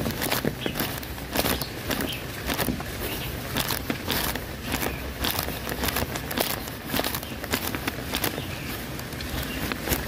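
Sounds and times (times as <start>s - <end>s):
footsteps on wet paving stones: 0.0s - 10.0s
rain falling: 0.0s - 10.0s.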